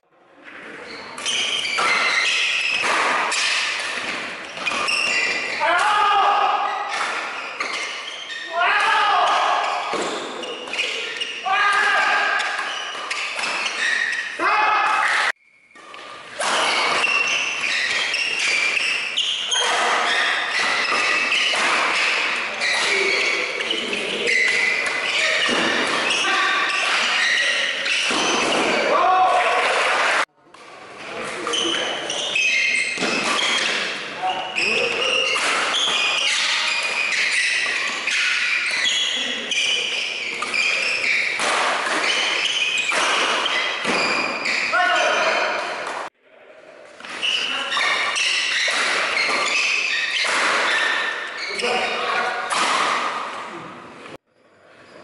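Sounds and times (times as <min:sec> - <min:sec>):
shoes squeaking on court: 0:00.5 - 0:05.7, 0:06.7 - 0:08.5, 0:09.2 - 0:14.4, 0:15.0 - 0:28.9, 0:31.0 - 0:46.1, 0:47.0 - 0:55.0
rackets hitting shuttlecock: 0:00.5 - 0:06.0, 0:06.6 - 0:46.1, 0:47.0 - 0:53.5.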